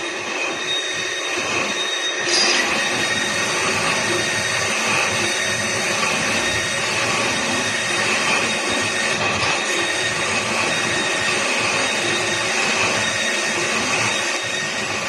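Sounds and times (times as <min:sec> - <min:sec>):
machine tool whirring and whining: 0:00.0 - 0:15.0.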